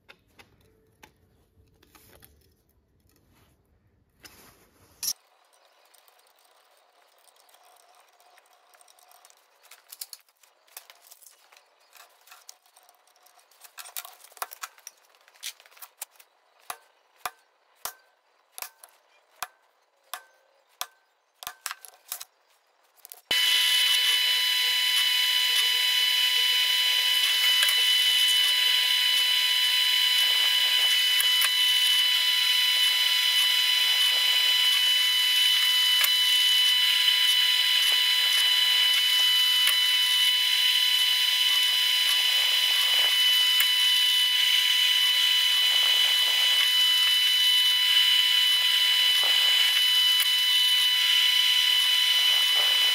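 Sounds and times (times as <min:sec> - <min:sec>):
pillar drill whining: 0:05.1 - 0:20.6, 0:21.9 - 0:52.9.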